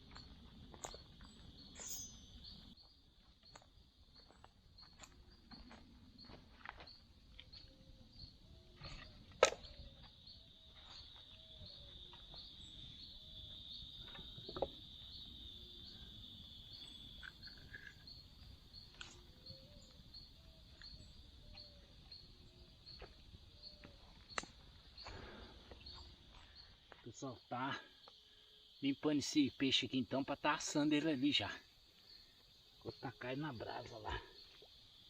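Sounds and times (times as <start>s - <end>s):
insects droning and chirping: 0.0s - 35.0s.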